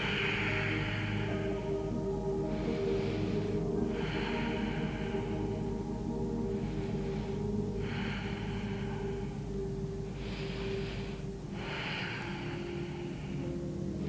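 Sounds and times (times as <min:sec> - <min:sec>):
soft background music: 0:00.0 - 0:14.0
woman breathing slowly: 0:00.0 - 0:14.0.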